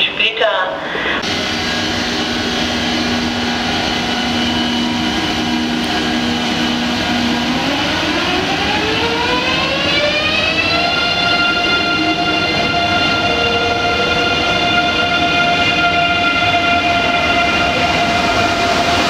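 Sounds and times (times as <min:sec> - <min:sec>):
train rolling noise: 0:00.8 - 0:19.0
electric train whining: 0:00.9 - 0:19.0.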